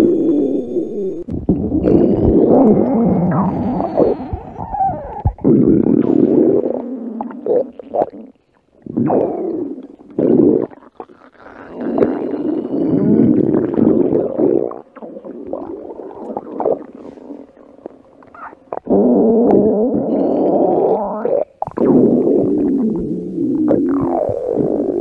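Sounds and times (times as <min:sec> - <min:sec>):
stomach rumbling and gurgling: 0:00.0 - 0:25.0.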